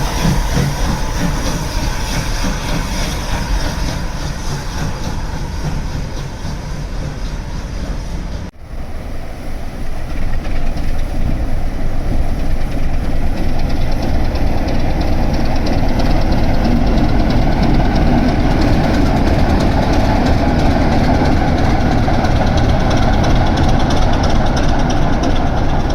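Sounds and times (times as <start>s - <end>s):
train rumbling: 0.0s - 25.9s.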